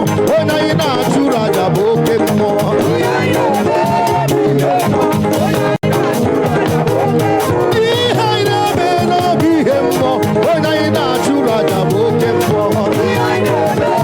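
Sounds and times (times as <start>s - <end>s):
upbeat praise music with singing: 0.0s - 14.0s.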